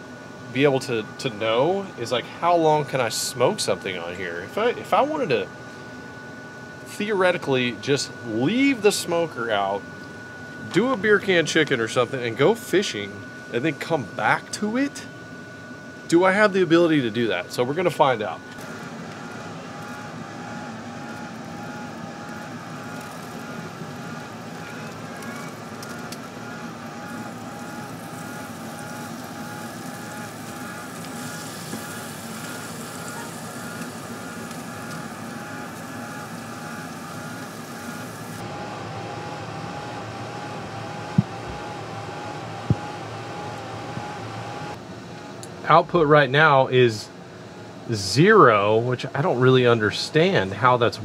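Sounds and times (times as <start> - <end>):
grill fan hum with warble: 0.0 - 51.0.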